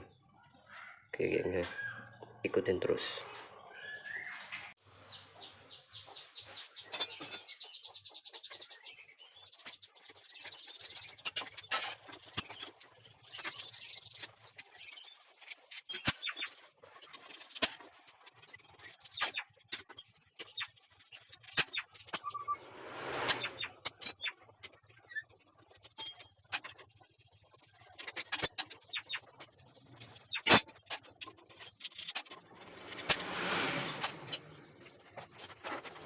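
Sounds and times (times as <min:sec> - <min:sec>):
birds chirping: 0:00.0 - 0:16.6, 0:20.5 - 0:30.6, 0:33.8 - 0:36.0.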